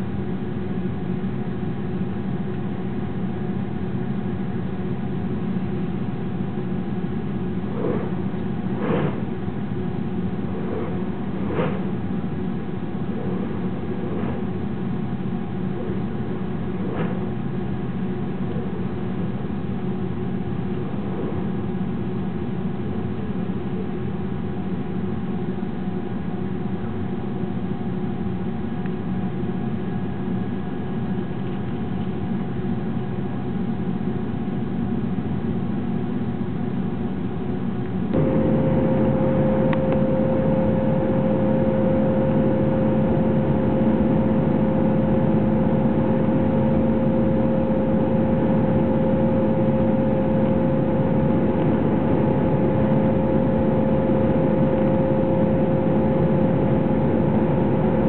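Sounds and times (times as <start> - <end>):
jet engine drone in cabin: 0.0 - 58.0
mid-pitched whine: 0.0 - 58.0.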